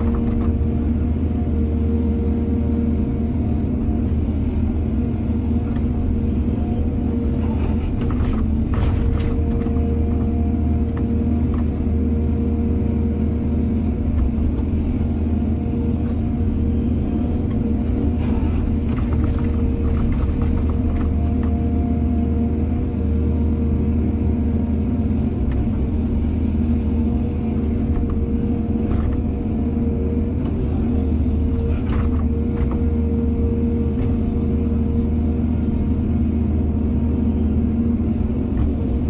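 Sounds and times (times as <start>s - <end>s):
excavator diesel engine: 0.0s - 39.0s.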